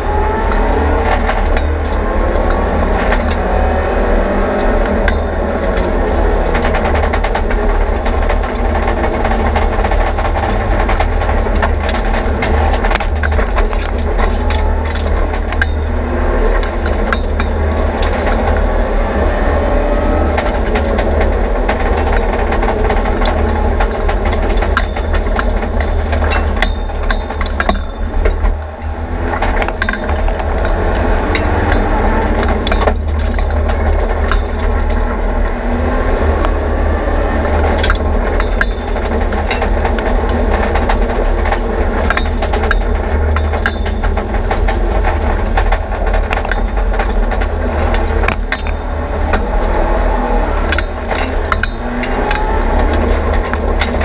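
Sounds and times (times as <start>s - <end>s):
car engine revving: 0.0s - 54.0s
sharp cracks and rattles: 0.0s - 54.0s.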